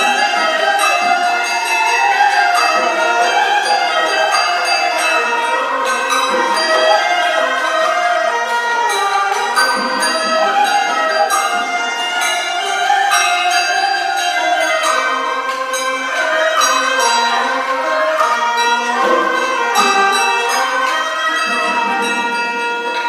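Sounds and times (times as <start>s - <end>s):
percussion strikes: 0.0s - 23.0s
traditional instrumental ensemble: 0.0s - 23.0s.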